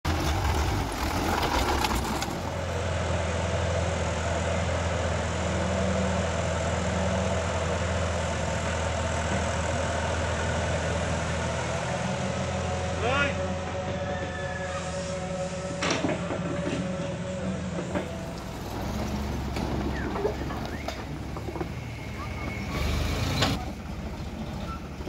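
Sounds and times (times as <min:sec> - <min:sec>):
excavator engine working: 0:00.0 - 0:25.0
tractor engine idling: 0:00.0 - 0:25.0.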